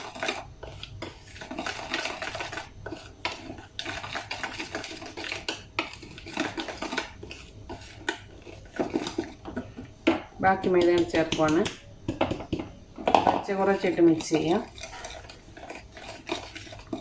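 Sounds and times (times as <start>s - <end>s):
utensil scraping and clinking bowl: 0.0s - 17.0s.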